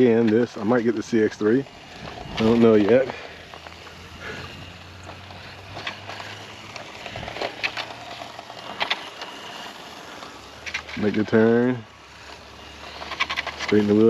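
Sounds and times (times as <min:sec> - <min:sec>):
sharp clicks and ticks: 0:00.0 - 0:14.0
steady low hum: 0:00.0 - 0:14.0
toy motor whine: 0:00.0 - 0:14.0.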